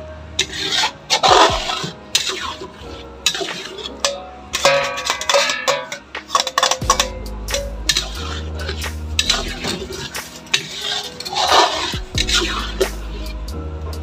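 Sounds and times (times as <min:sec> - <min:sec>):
music: 0:00.0 - 0:14.0
metal spatula scraping steel pot: 0:00.4 - 0:13.5.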